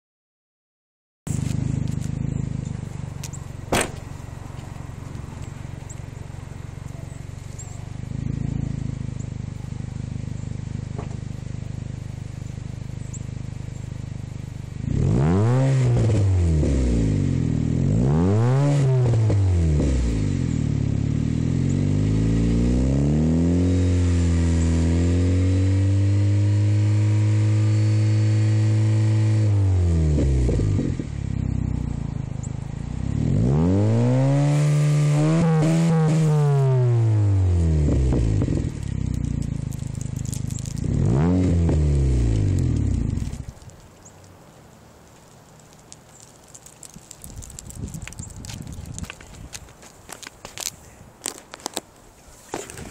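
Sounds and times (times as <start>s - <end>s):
car exhaust idling and revving: 1.3s - 52.0s.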